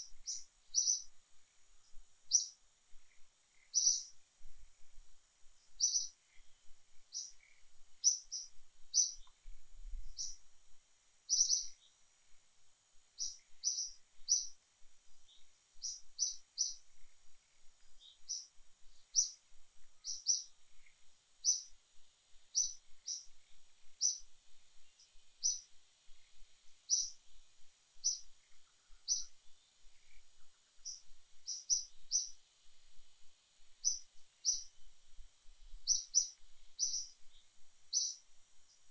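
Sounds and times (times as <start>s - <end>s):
small bird chirping: 0.0s - 10.5s, 11.2s - 12.4s, 13.0s - 38.9s
insects hissing: 0.0s - 12.4s, 13.1s - 14.6s, 15.2s - 21.8s, 22.4s - 27.4s, 28.0s - 32.9s, 33.8s - 34.9s, 35.7s - 38.9s.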